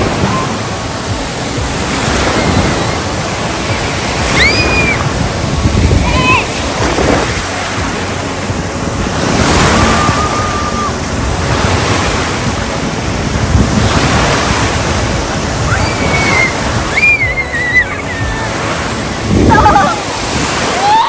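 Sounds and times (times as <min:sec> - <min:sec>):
waves and splashing water: 0:00.0 - 0:21.0
wind buffeting microphone: 0:00.0 - 0:21.0.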